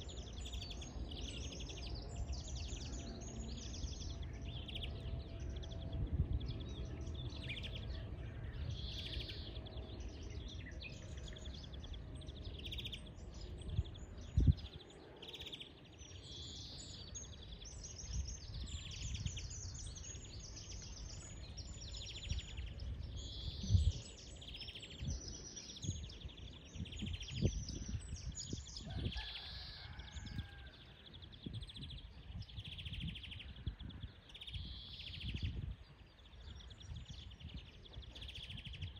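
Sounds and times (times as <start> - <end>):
finch singing: 0.0 - 38.9.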